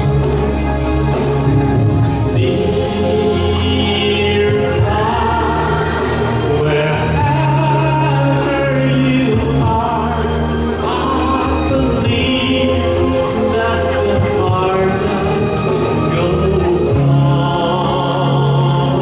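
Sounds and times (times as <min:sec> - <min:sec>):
live band accompaniment: 0:00.0 - 0:19.0.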